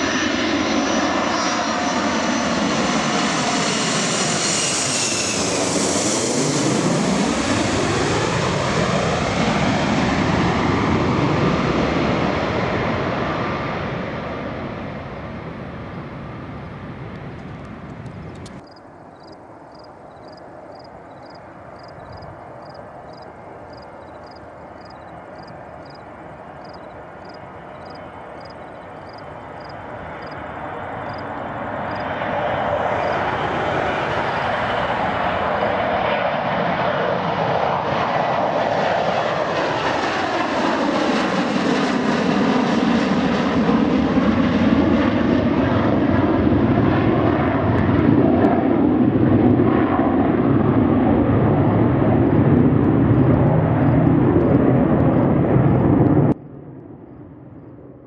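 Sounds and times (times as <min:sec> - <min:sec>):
jet plane taking off: 0:00.0 - 0:58.0.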